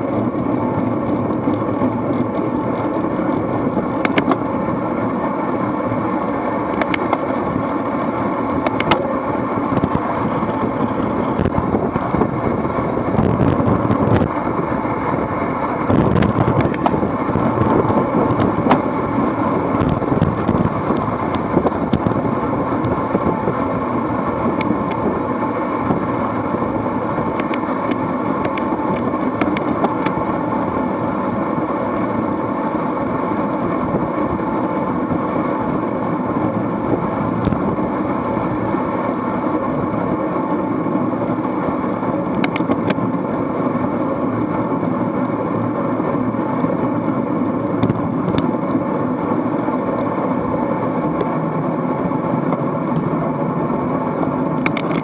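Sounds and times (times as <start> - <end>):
tyre and road noise: 0.0 - 55.0
wind rushing over microphone: 0.0 - 55.0.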